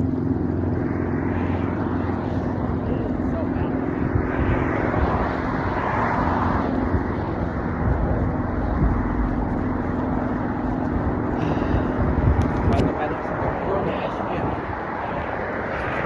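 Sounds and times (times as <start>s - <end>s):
road traffic: 0.0s - 16.0s
wind rumble on microphone: 0.0s - 16.0s.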